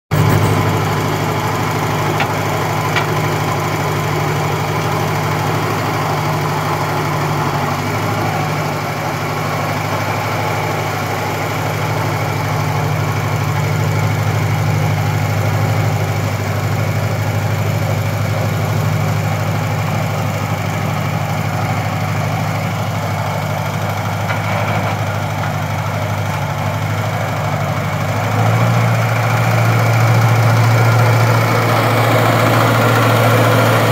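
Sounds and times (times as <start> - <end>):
tractor engine running: 0.1 - 33.9.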